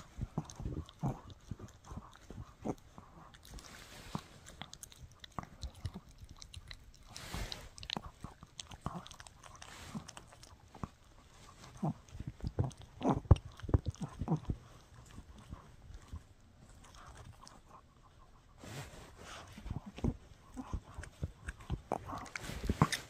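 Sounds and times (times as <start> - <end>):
dog chewing with wet crunches: 0.0 - 23.0.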